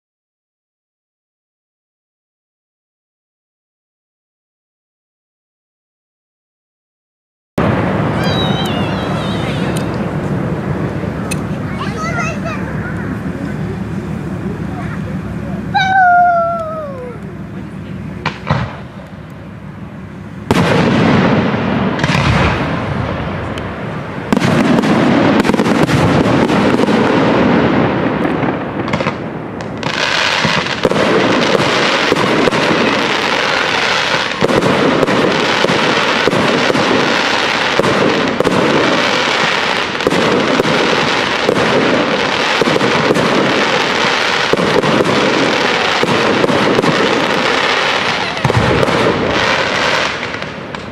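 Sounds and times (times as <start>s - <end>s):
fireworks bursting and crackling: 7.6s - 50.9s.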